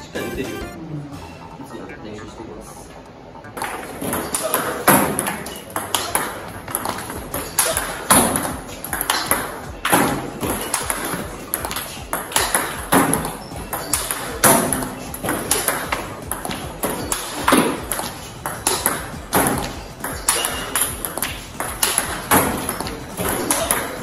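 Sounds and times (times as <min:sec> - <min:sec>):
table tennis ball hits: 0:03.6 - 0:24.0.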